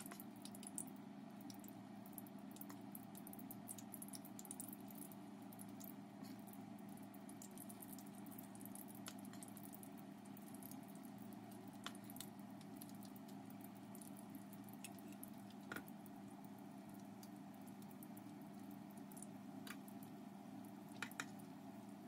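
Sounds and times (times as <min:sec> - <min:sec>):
oil sizzling with crackles: 0:00.0 - 0:22.0
steady low hum: 0:00.0 - 0:22.0.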